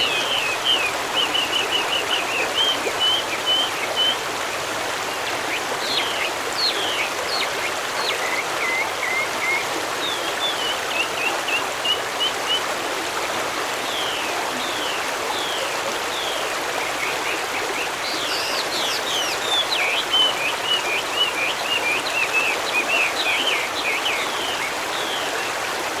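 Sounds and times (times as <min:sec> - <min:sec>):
songbirds chirping and trilling: 0:00.0 - 0:12.6, 0:13.7 - 0:25.7
stream running: 0:00.0 - 0:26.0.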